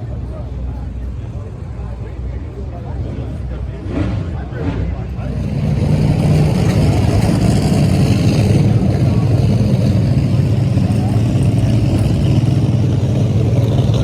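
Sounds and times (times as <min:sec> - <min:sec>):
race engine idling: 0:00.0 - 0:14.0.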